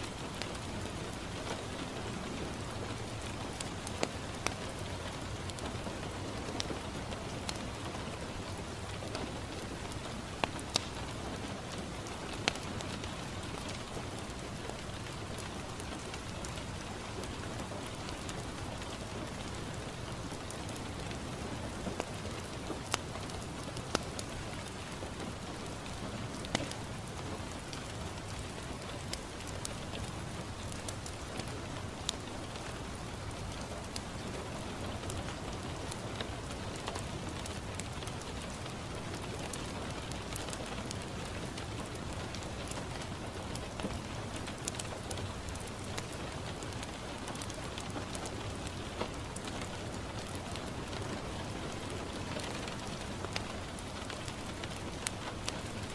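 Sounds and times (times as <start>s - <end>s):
rain pattering on a window: 0.0s - 55.9s
wood fire crackling: 0.0s - 55.9s.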